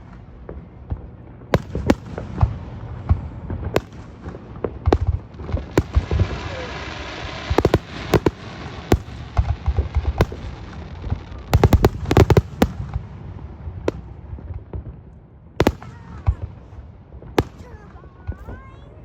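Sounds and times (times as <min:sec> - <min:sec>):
fireworks crackling: 0:00.0 - 0:14.9, 0:15.6 - 0:19.0
fireworks bangs: 0:00.0 - 0:15.0, 0:15.6 - 0:19.0.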